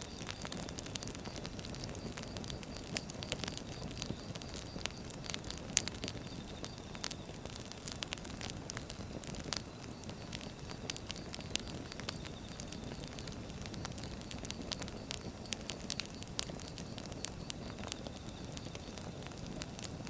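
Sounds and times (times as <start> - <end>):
logs crackling and popping: 0.0 - 20.0
low rush of flame: 0.1 - 20.0.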